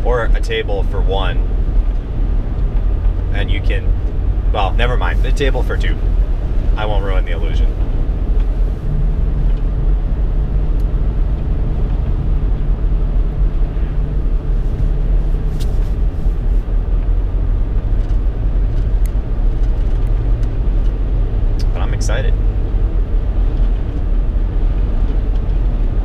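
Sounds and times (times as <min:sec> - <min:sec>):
car cabin road noise: 0:00.0 - 0:26.0.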